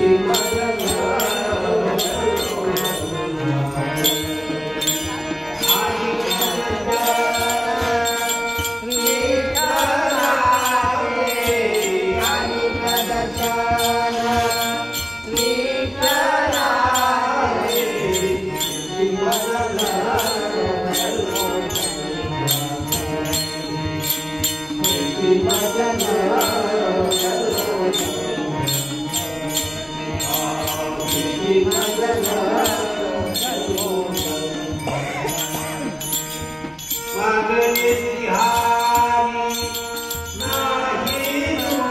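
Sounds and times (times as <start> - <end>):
jingling beat: 0.0 - 41.9
man singing devotional song: 0.0 - 41.9.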